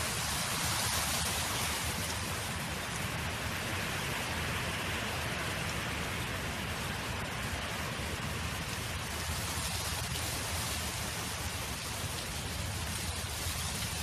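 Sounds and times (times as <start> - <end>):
wind blowing across a field: 0.0 - 14.0.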